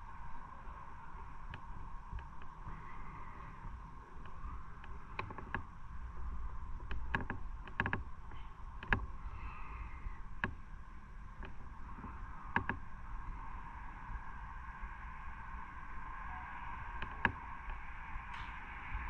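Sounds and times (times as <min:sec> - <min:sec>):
motorcycle engine drone: 0:00.0 - 0:19.0.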